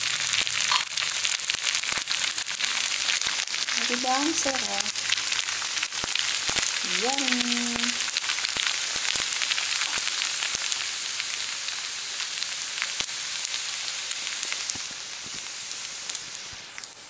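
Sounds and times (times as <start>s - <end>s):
noodles sizzling in a wok: 0.0s - 17.0s.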